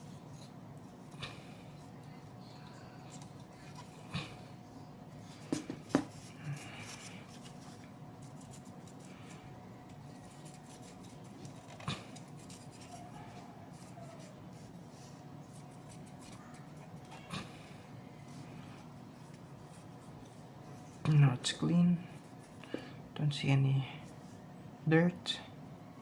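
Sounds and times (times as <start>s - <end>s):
swab scratching fan: 0.0s - 22.8s.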